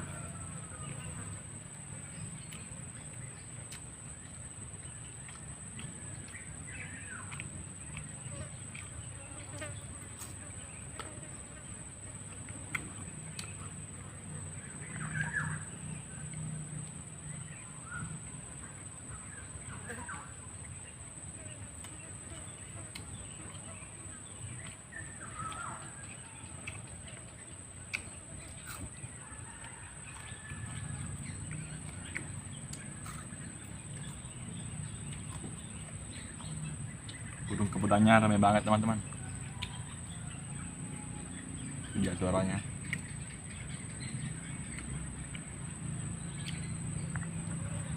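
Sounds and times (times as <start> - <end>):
wild birds calling: 0.0 - 16.7, 22.2 - 47.9.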